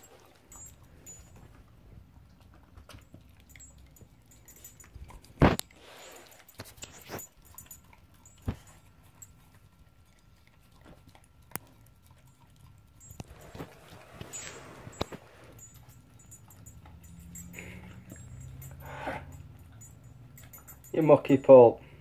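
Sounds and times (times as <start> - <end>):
dog licking and chewing: 0.0 - 21.3.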